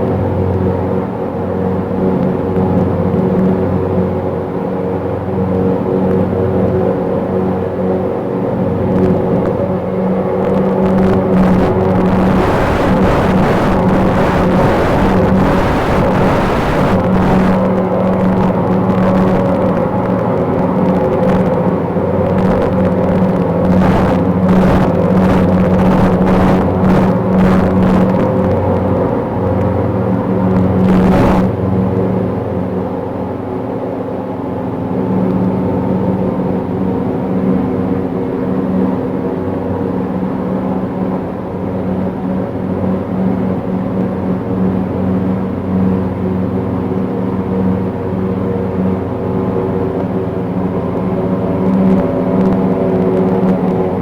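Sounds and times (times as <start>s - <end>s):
low droning hum: 5.2s - 54.0s.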